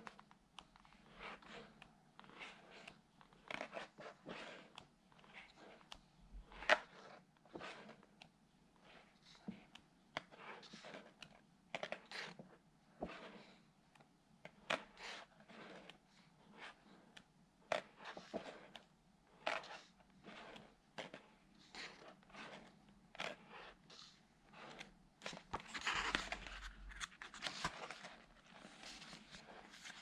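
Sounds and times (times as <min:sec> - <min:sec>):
book pages turning: 0:00.0 - 0:30.0.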